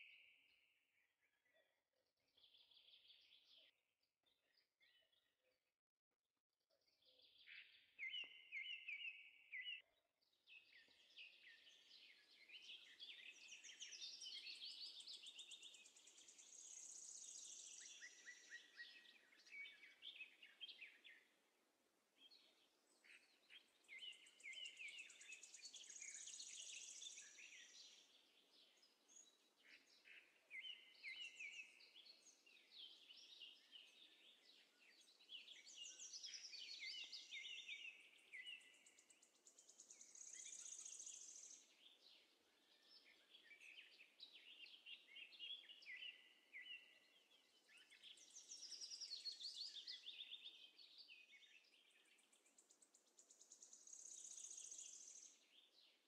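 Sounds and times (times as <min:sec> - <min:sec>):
birds chirping and trilling: 0:06.8 - 0:21.6, 0:22.2 - 0:56.0.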